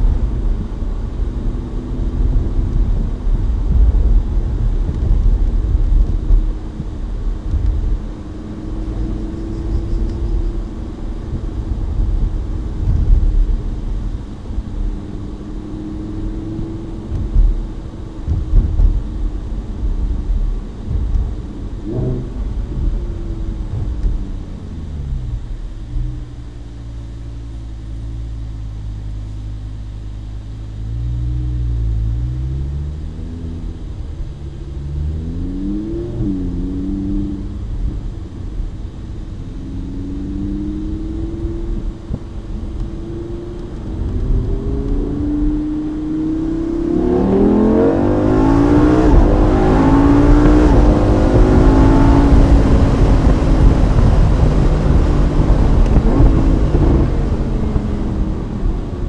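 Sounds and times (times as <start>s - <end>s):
sports car engine accelerating: 0.0s - 59.0s.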